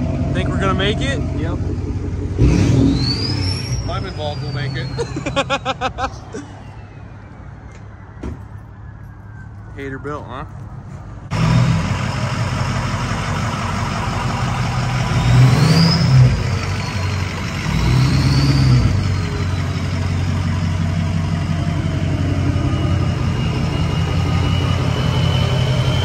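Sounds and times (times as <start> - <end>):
diesel engine idling and revving: 0.0 - 26.0.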